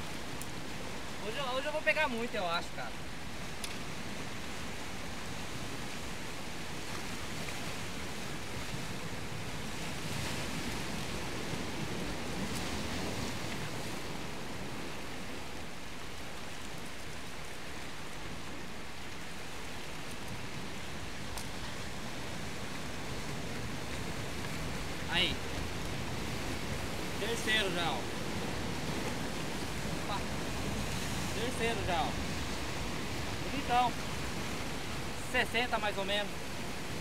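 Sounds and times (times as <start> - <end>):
sea surf rushing: 0.0 - 37.0.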